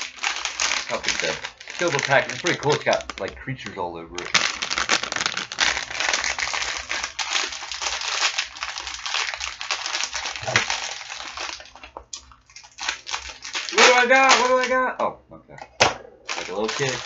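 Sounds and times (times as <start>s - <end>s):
foil bag crinkling and tearing: 0.0s - 14.8s, 16.3s - 17.0s.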